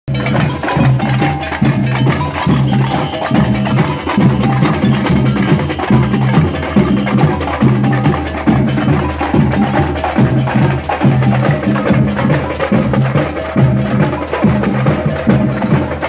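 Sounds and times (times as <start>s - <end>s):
bass drums beating: 0.1s - 16.0s
samba drum band playing: 0.1s - 16.0s.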